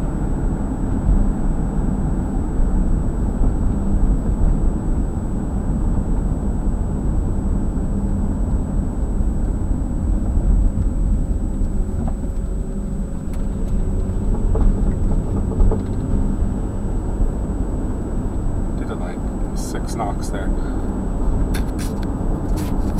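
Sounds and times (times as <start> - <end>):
car engine rumbling: 0.0 - 22.9.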